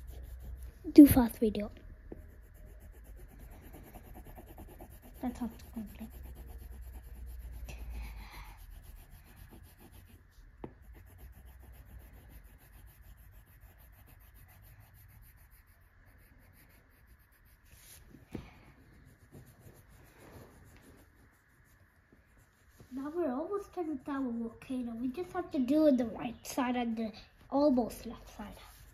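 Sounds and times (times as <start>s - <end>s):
crayon scribbling on paper: 0.0s - 18.0s, 18.8s - 25.4s.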